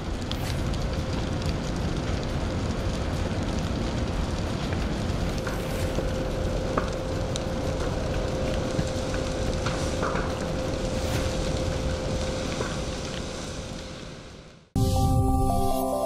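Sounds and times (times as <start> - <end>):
faint crackles: 0.0 - 14.7
rushing rumbling noise: 0.0 - 15.2.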